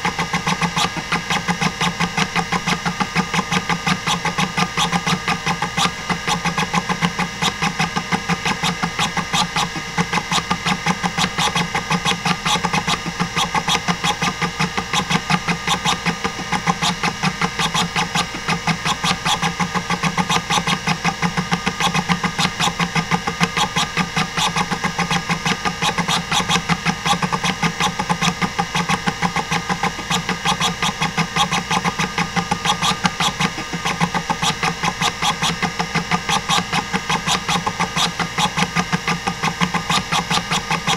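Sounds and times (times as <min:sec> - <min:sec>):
hard drive stepper clicks: 0:00.0 - 0:40.9
spindle motor hum: 0:00.0 - 0:40.9.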